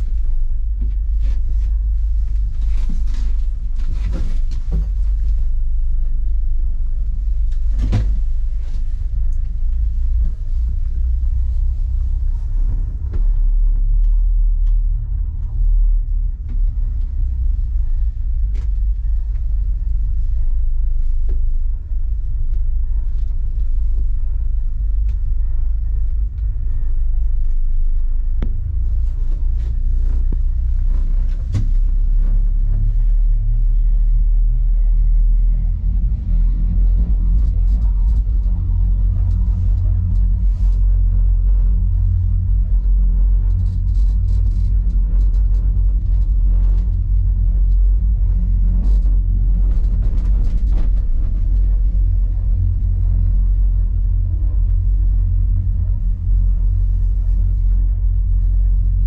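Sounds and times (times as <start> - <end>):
faint clicks and rattles: 0.0 - 59.0.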